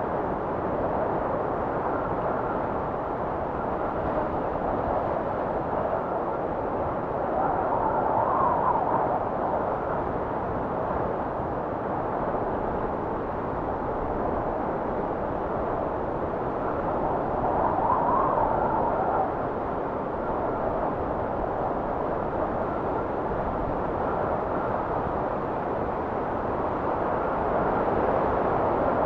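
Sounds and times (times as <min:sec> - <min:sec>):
howling blizzard wind: 0:00.0 - 0:29.0.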